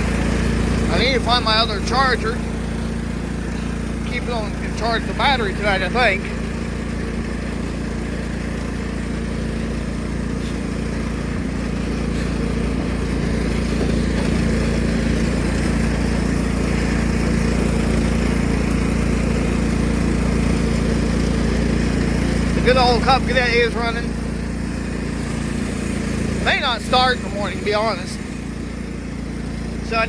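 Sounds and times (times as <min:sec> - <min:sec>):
riding lawn mower engine running: 0:00.0 - 0:30.0.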